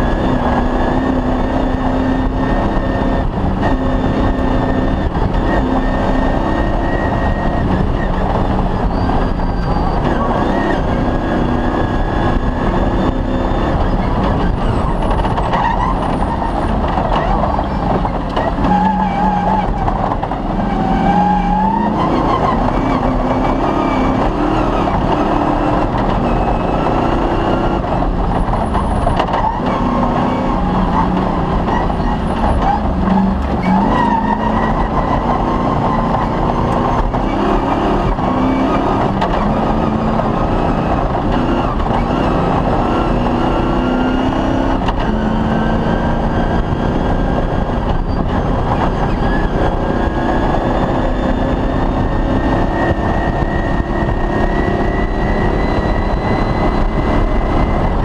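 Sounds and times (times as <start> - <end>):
car rumbling over rough track: 0.0 - 58.0
rally car engine revving: 0.0 - 58.0.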